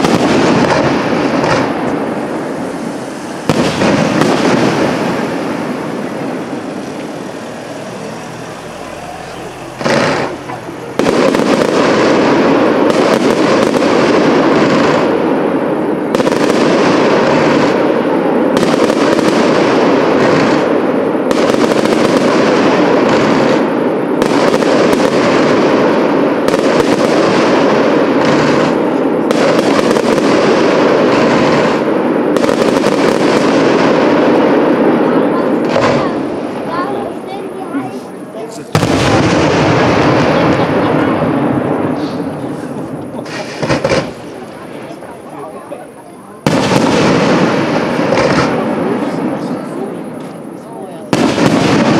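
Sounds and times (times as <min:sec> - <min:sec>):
fireworks bursting and crackling: 0:00.0 - 0:51.9.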